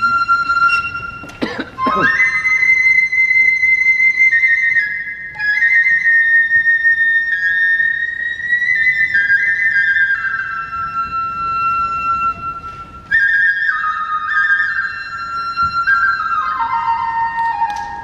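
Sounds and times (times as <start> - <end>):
bamboo flute long notes: 0.0 - 18.0.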